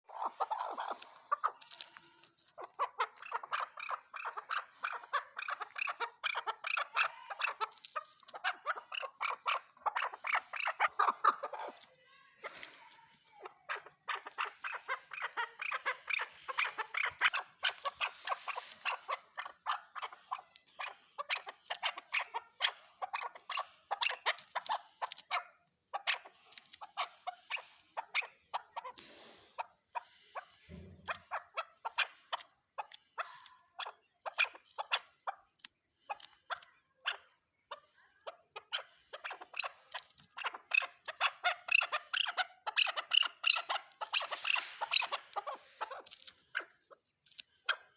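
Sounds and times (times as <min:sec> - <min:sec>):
partridge chuck calls: 0:00.0 - 0:47.9.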